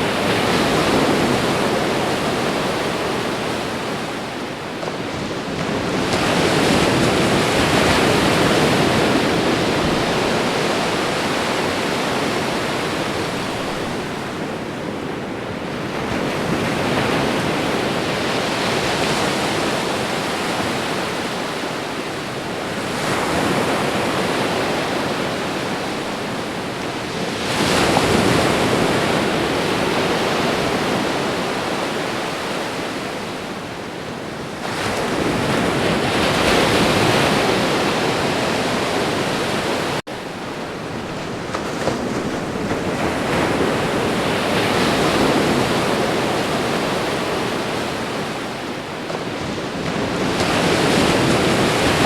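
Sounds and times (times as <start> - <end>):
waves breaking on shore: 0.0 - 52.0.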